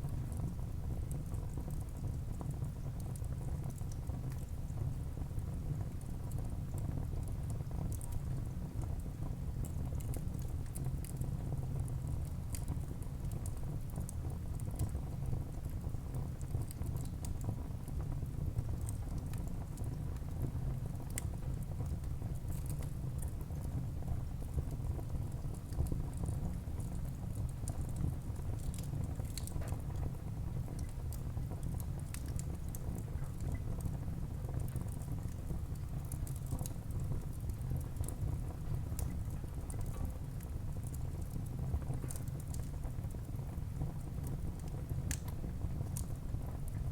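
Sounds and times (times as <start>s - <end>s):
fire crackling and popping: 0.1s - 46.9s.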